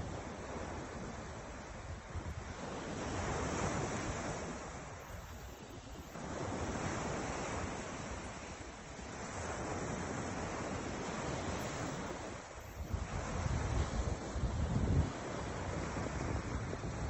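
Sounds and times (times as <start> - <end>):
ocean surf washing in: 0.0 - 17.0
wind buffeting microphone: 0.0 - 17.0.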